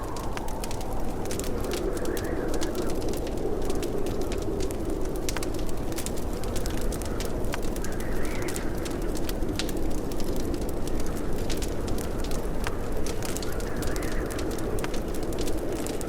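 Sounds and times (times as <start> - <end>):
low rumble of flames: 0.0 - 16.0
wood fire pops and crackles: 0.0 - 16.0.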